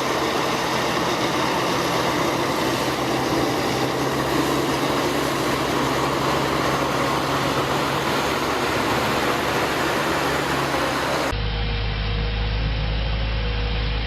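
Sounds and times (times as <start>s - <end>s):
heavy farm machinery running: 0.0s - 13.8s
deeper engine hum: 0.0s - 14.0s.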